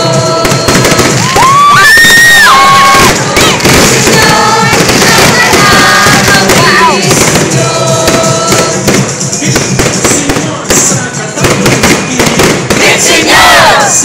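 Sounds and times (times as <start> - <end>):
fireworks bursting with crackle: 0.0 - 14.0.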